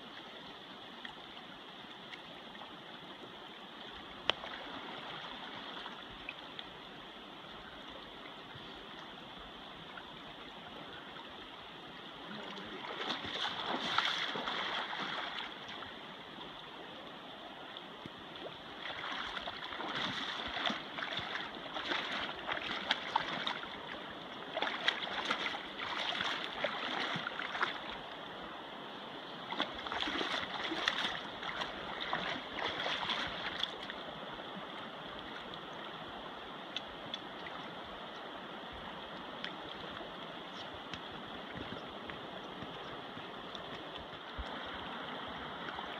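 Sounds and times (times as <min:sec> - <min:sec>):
river flowing: 0:00.0 - 0:45.9.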